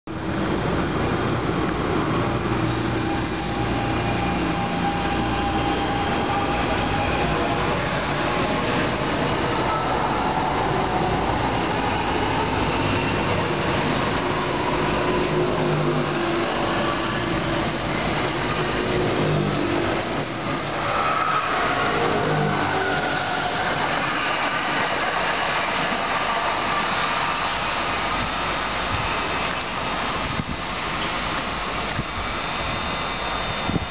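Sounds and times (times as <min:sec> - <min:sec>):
train wheels rumbling on rails: 0:00.1 - 0:33.9.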